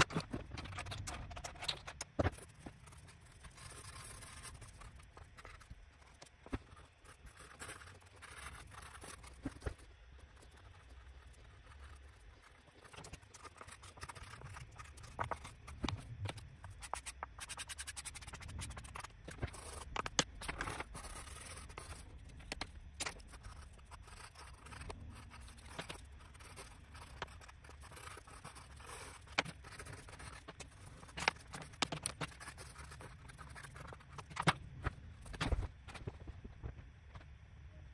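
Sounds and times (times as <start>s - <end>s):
pencil scratching on paper: 2.2s - 34.5s.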